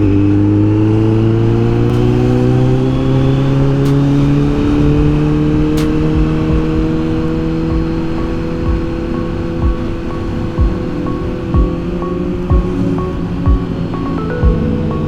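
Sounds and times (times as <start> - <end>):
motorcycle engine pulling: 0.0 - 15.0.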